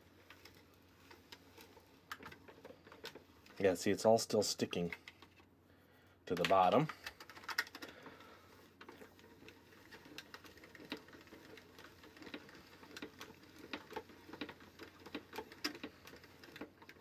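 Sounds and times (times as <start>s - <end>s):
plastic mixer churning: 0.0s - 5.4s, 6.3s - 17.0s.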